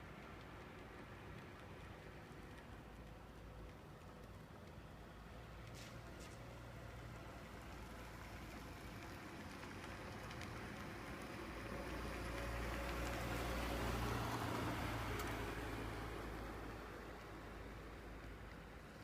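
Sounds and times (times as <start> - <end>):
distant vehicle engine hum: 0.0 - 19.0.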